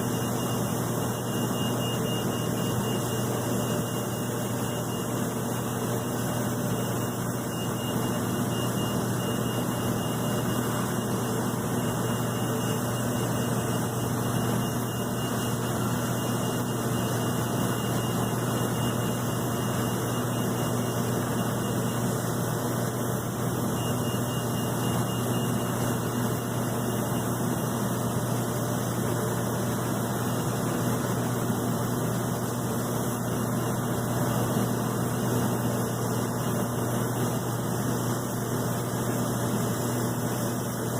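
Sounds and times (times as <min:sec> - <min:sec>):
thin high whine: 0:00.0 - 0:40.9.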